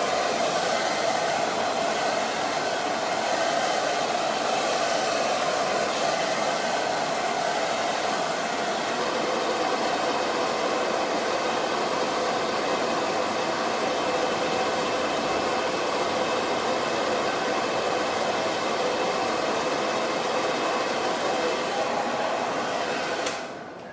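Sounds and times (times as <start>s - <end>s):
hair dryer running: 0.0s - 23.6s.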